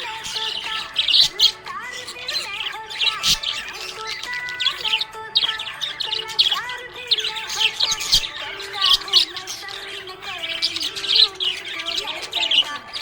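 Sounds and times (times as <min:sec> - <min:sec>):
budgerigar chirping: 0:00.0 - 0:13.0
budgerigar warbling: 0:00.0 - 0:13.0.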